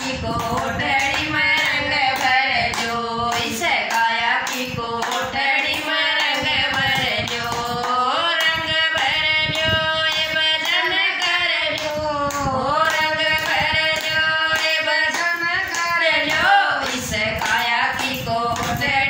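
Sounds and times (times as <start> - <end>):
hands clapping in time: 0.0 - 18.9
women singing devotional song: 0.0 - 19.0.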